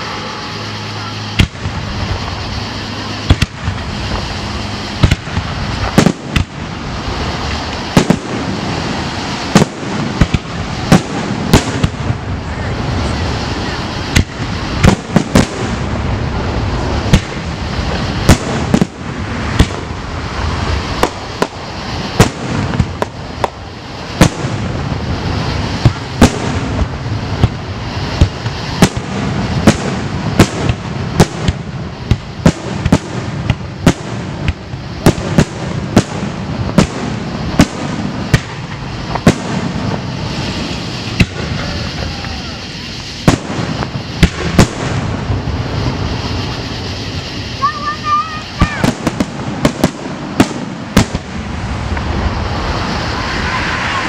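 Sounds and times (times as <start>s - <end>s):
firework shells bursting: 0.0s - 54.0s
steady background noise: 0.0s - 54.0s.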